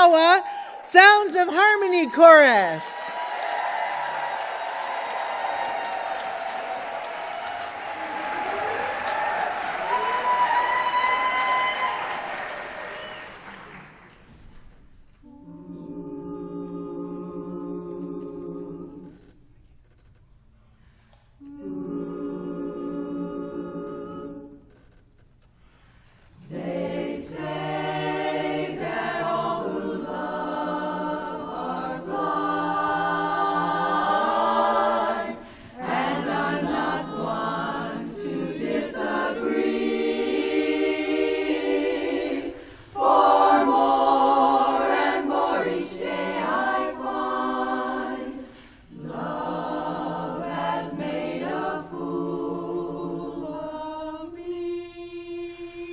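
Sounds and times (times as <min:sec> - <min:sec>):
women's chorus singing a cappella: 0:00.0 - 0:13.8, 0:15.2 - 0:19.4, 0:21.4 - 0:25.0, 0:26.3 - 0:55.9.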